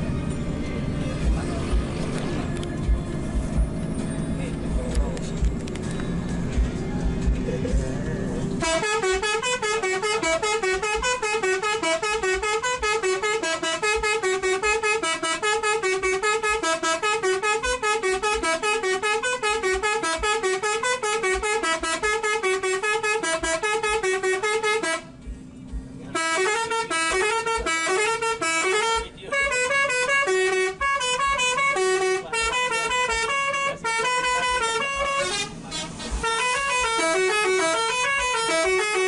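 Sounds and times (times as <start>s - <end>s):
multi-tone bus horn melody: 0.0s - 25.4s, 26.0s - 39.0s.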